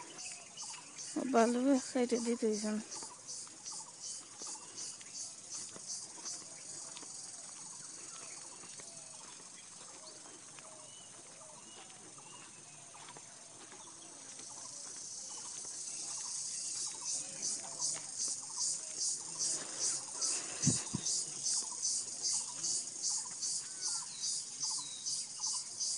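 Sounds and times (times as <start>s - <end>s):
insects chirping: 0.0s - 25.9s.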